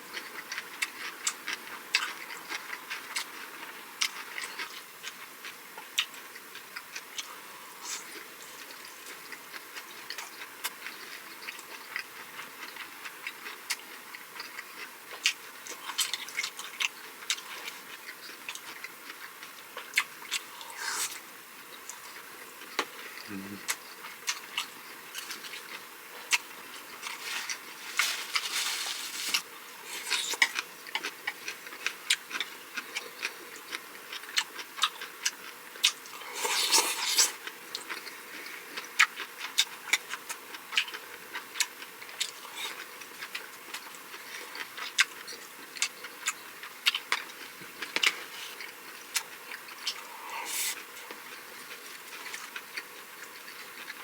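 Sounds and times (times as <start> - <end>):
close chewing with wet mouth clicks: 0.1 - 27.7, 29.3 - 54.0.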